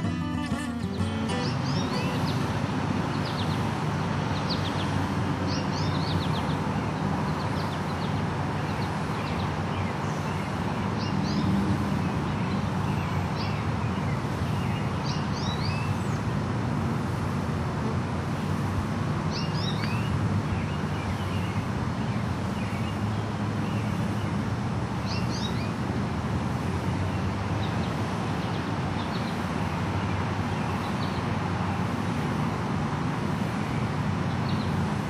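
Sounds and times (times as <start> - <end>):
small birds chirping: 0.0 - 16.4, 19.3 - 24.4, 25.0 - 25.8, 26.8 - 31.8, 33.6 - 35.0.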